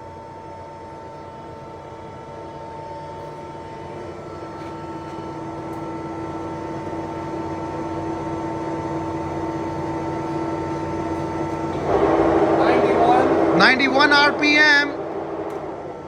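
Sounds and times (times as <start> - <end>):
lathe humming and whining: 0.0 - 16.0.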